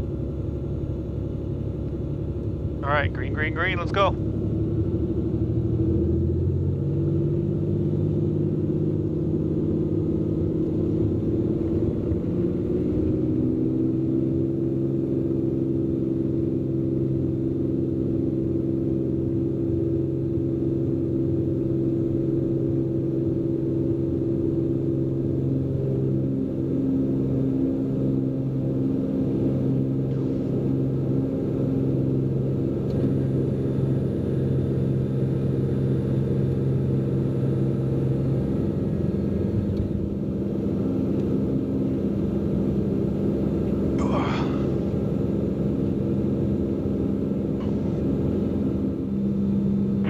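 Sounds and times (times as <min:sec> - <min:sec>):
airplane engine and propeller drone: 0:00.0 - 0:50.0.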